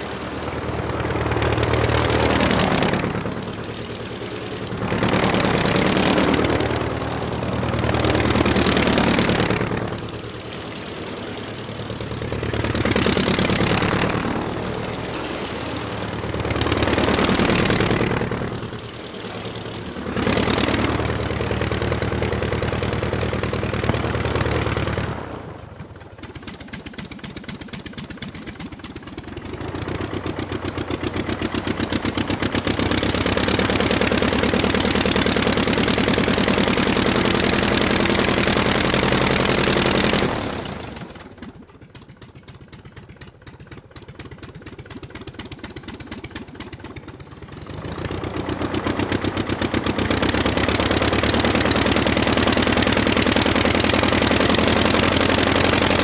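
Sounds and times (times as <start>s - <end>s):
aircraft piston engine running: 0.0s - 56.0s.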